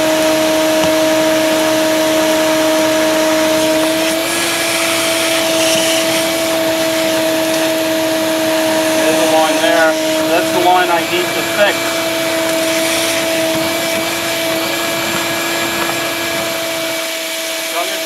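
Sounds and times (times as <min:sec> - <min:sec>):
shop vac running: 0:00.0 - 0:18.0.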